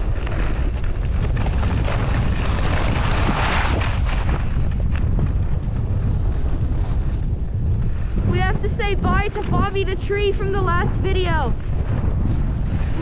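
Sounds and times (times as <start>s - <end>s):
skis sliding on snow: 0.0s - 13.0s
wind buffeting microphone: 0.0s - 13.0s.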